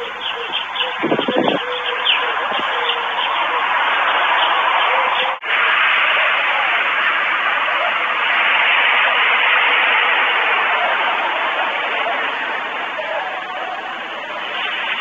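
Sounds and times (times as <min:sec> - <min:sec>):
static-like hiss: 0:00.0 - 0:15.0.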